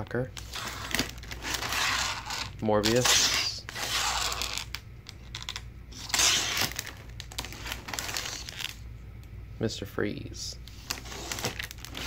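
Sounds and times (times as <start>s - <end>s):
plastic bags crinkling: 0.4s - 8.8s, 10.7s - 12.0s.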